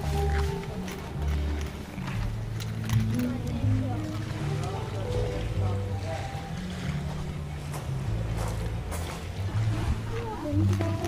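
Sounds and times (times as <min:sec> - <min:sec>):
low bass line: 0:00.0 - 0:11.0.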